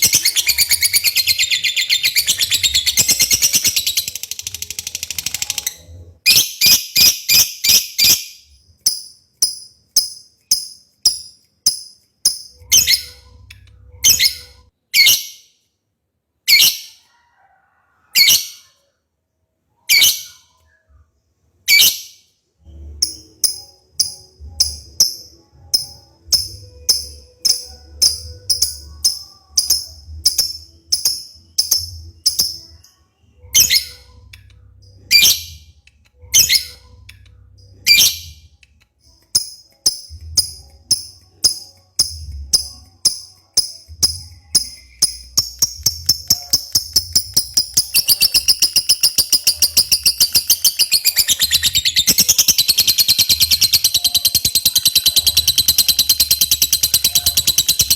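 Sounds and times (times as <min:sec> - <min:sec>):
lovebird chirping and trilling: 0:00.0 - 0:15.5, 0:19.8 - 0:20.6, 0:21.7 - 0:22.2, 0:22.8 - 0:38.4, 0:39.1 - 0:57.9.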